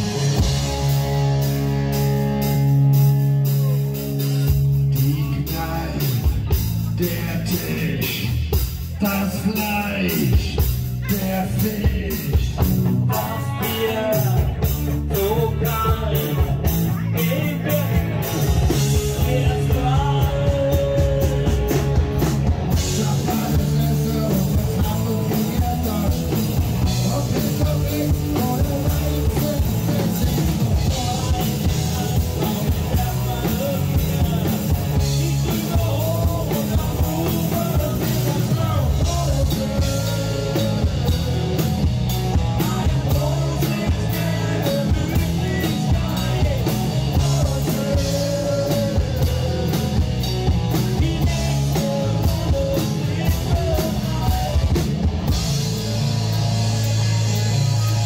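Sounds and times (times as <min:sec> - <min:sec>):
rock music with drum kit: 0:00.0 - 0:58.0.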